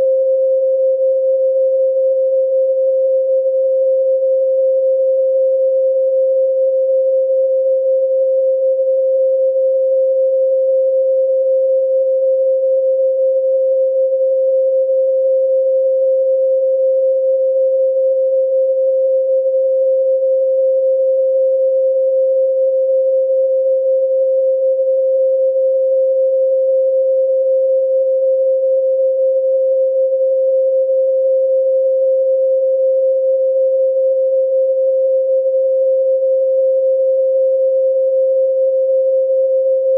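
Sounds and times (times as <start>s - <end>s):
steady pure sine tone: 0.0s - 39.9s.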